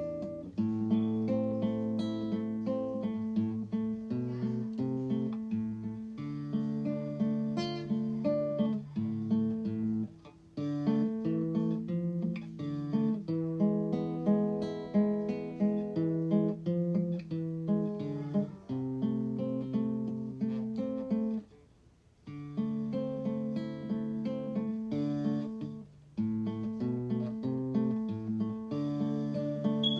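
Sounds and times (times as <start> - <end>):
acoustic guitar music: 0.0 - 29.9.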